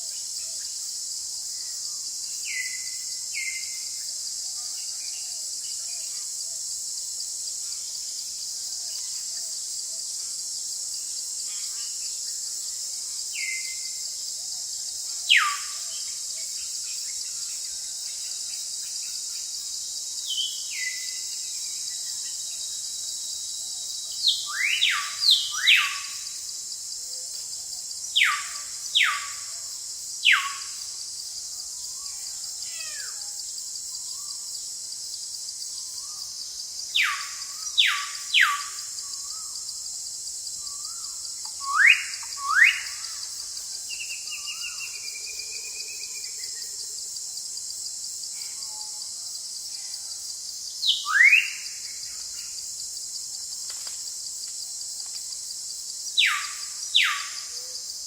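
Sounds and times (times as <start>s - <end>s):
high-pitched insect hum: 0.0s - 58.0s.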